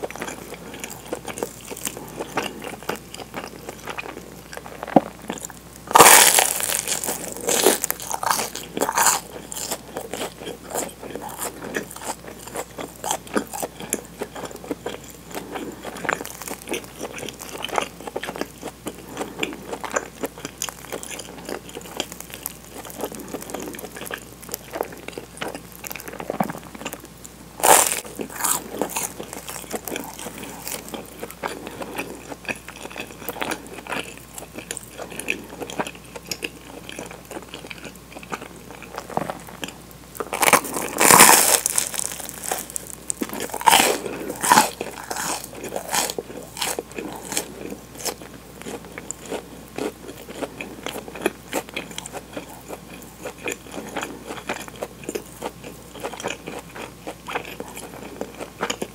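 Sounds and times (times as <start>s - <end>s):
crackly chewing: 0.0s - 58.9s
crunchy bites of toast: 0.1s - 58.9s.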